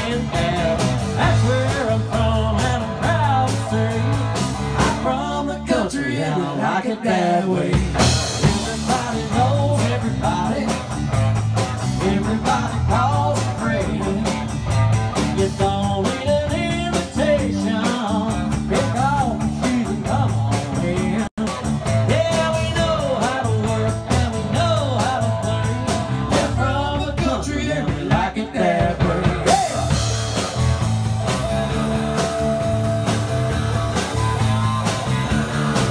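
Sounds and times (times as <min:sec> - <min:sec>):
electric guitar: 0:00.0 - 0:05.6, 0:07.6 - 0:35.9
bass guitar: 0:00.0 - 0:06.8, 0:07.4 - 0:35.9
drums: 0:00.0 - 0:35.9
male lead vocal: 0:00.0 - 0:35.9.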